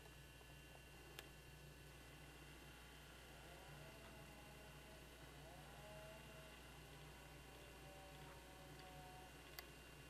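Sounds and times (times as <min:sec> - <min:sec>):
faint steady background hiss: 0:00.0 - 0:10.0.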